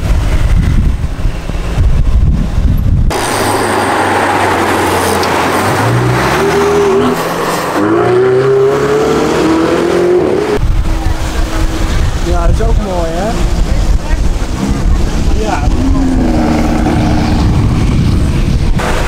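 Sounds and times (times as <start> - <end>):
sports car accelerating: 3.1 - 19.0.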